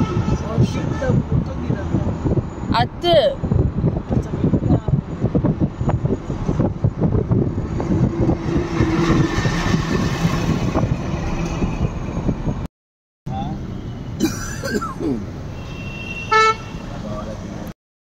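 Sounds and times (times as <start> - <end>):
vehicle engine and road noise: 0.0 - 12.7, 13.3 - 17.8.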